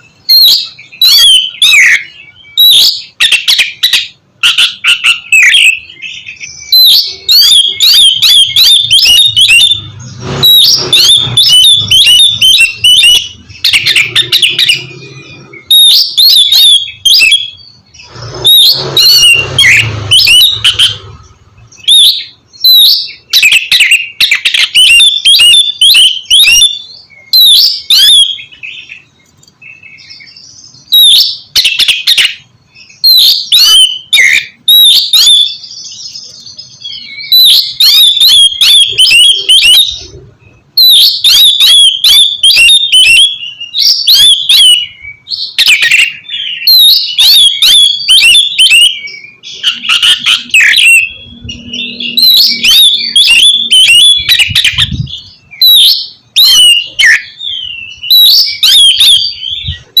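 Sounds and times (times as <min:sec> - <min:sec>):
bird singing chirps and whistles: 0:00.0 - 1:00.0.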